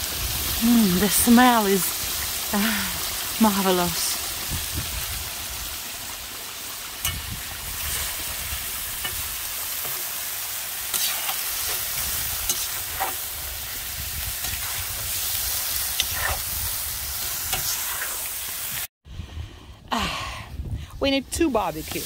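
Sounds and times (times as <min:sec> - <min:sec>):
meat sizzling in hot oil: 0:00.0 - 0:18.9, 0:21.6 - 0:22.0.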